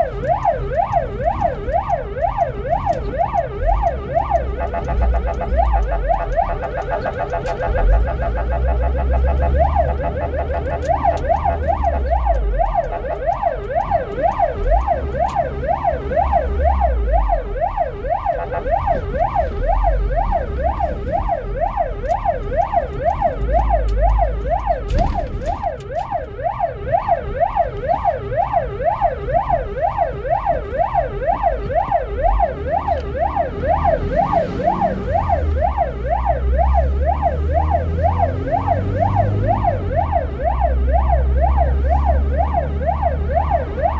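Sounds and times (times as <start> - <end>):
ambulance siren yelping: 0.0 - 43.9.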